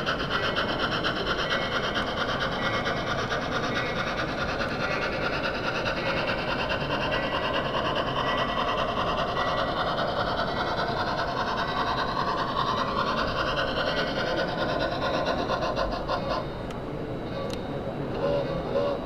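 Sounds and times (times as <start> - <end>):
model train whirring and rattling: 0.0 - 19.0.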